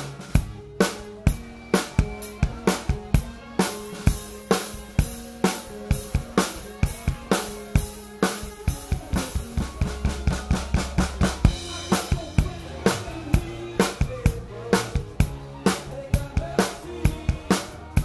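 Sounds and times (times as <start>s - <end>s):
bass notes: 0.0s - 18.0s
drum kit playing: 0.0s - 18.0s.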